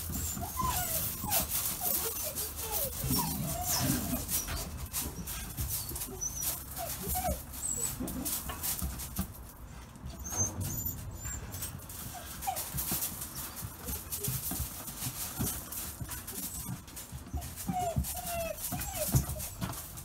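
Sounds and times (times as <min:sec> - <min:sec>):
puppies whimpering: 0:00.0 - 0:08.5, 0:10.1 - 0:20.0.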